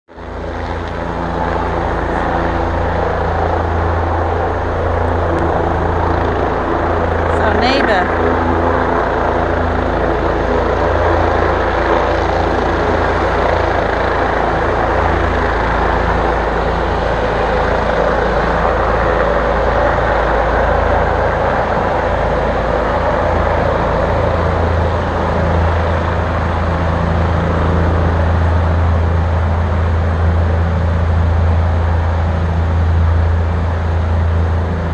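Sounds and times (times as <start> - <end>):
helicopter rotor and engine: 0.1 - 34.9.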